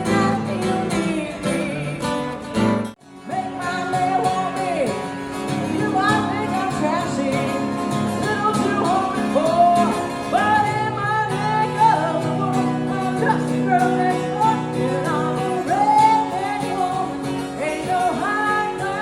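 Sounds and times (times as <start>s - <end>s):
acoustic guitar strumming: 0.0s - 19.0s
person singing: 0.0s - 19.0s.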